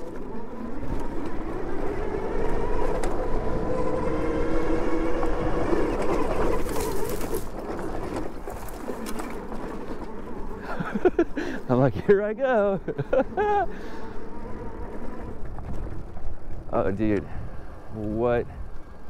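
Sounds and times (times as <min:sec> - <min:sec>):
electric motor whining: 0:00.0 - 0:11.3, 0:12.6 - 0:19.0
bike clicking over bumps: 0:00.0 - 0:19.0
tyre and wind rumble: 0:00.0 - 0:19.0.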